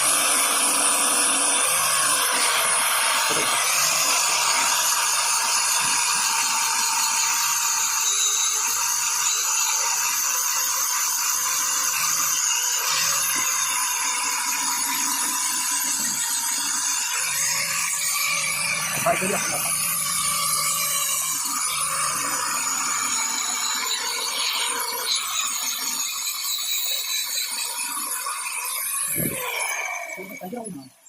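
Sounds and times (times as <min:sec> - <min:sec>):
angle grinder polishing metal: 0:00.0 - 0:31.0.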